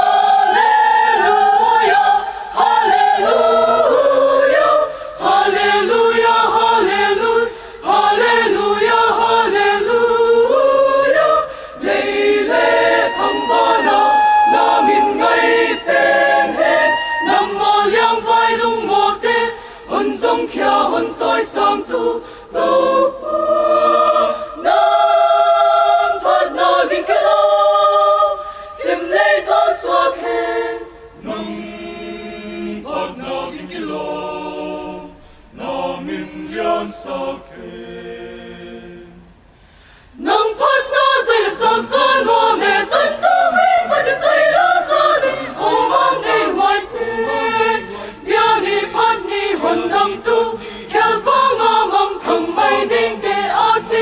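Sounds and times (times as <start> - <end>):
mixed choir singing gospel: 0.0 - 39.5, 40.1 - 54.0.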